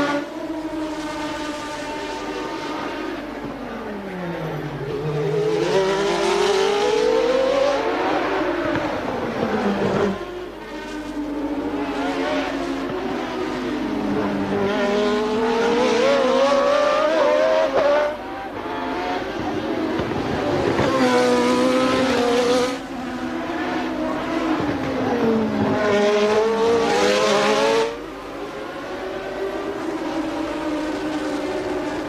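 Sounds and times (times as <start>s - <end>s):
racing car engines at full throttle: 0.0s - 32.0s.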